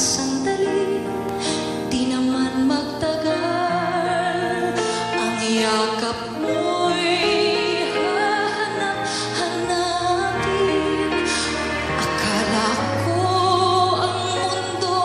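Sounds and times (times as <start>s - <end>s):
piano and band accompaniment: 0.0s - 15.0s
woman singing with vibrato: 0.0s - 15.0s.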